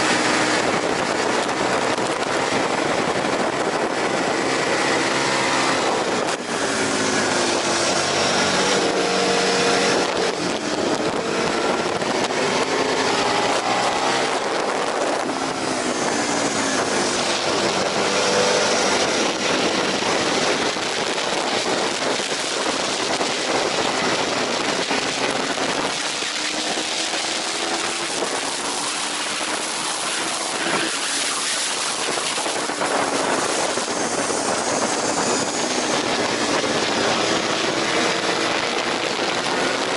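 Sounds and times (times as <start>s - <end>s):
motorcycle engine at racing speed: 0.0s - 39.9s
wind noise: 0.0s - 39.9s.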